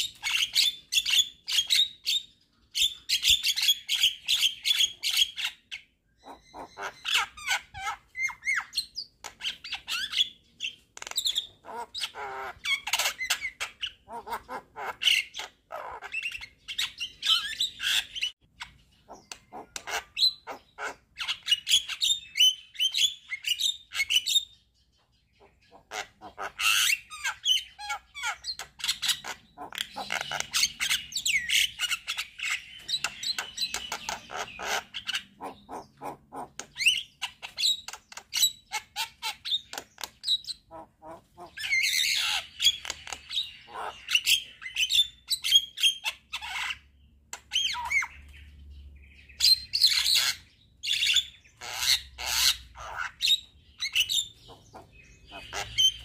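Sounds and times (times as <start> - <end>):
myna bird singing: 0.0 - 56.0.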